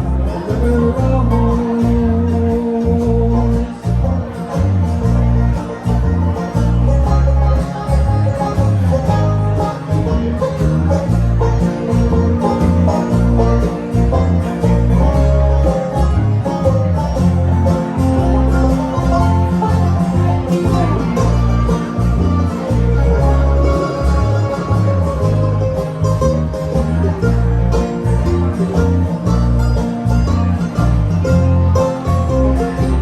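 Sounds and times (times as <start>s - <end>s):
banjo picking: 0.0s - 33.0s
guitar picking: 0.0s - 33.0s
upright bass line: 0.0s - 33.0s.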